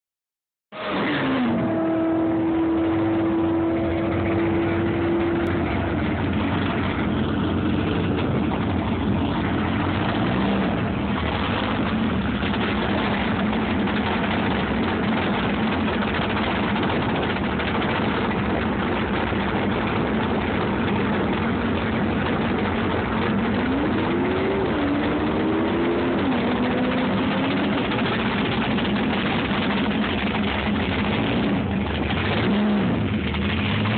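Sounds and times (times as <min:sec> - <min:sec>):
engine high-rev burnout: 0:00.7 - 0:33.9
engine revving: 0:00.7 - 0:33.9
racing car engines running: 0:00.8 - 0:33.9.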